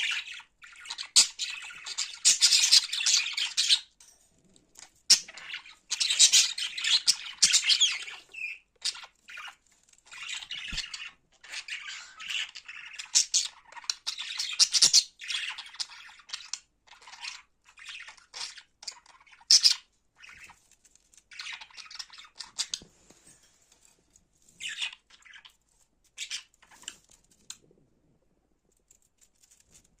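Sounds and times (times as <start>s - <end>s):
cockatiel chirping and squawking: 0.0s - 3.9s, 4.8s - 23.4s, 24.6s - 27.6s.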